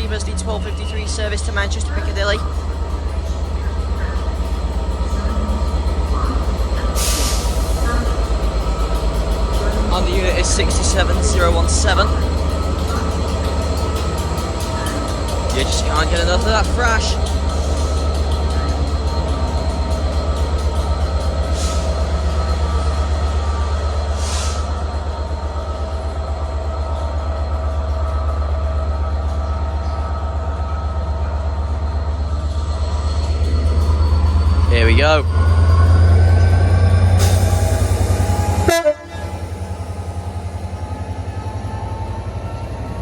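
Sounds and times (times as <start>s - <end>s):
diesel locomotive engine working hard: 0.0s - 43.0s.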